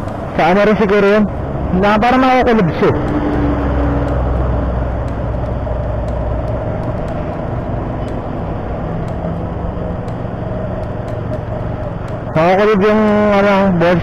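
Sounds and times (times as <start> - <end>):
wind rushing over microphone: 0.0 - 13.9
motorcycle engine running: 0.0 - 14.0.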